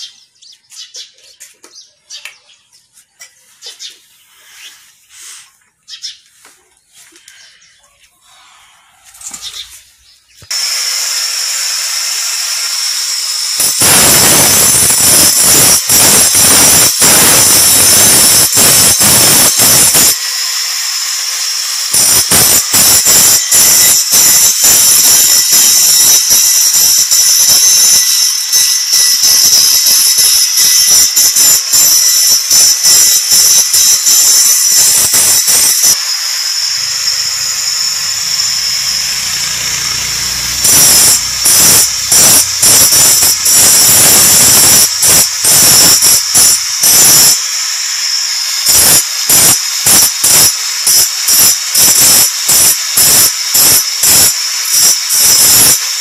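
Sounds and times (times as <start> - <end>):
angle grinder whining: 8.2 - 56.0
grinder grinding against steel: 8.2 - 56.0.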